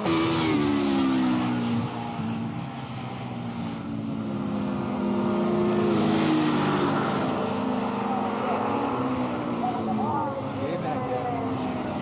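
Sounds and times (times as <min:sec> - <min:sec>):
motorbikes passing at speed: 0:00.0 - 0:12.0.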